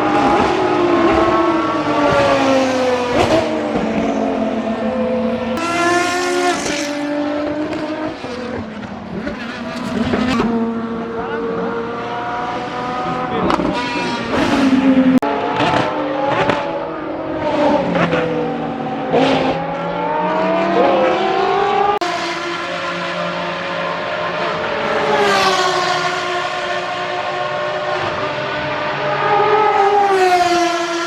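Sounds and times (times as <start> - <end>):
race car engine downshifting: 0.0 - 31.0.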